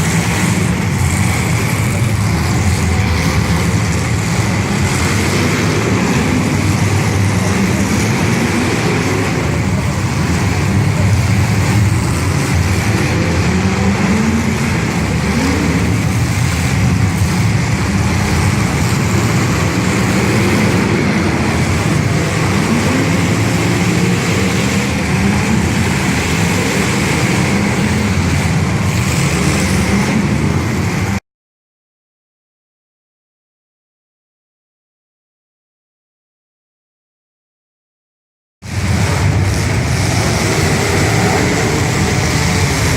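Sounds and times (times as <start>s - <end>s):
car engines revving: 0.0s - 31.2s, 38.6s - 42.9s.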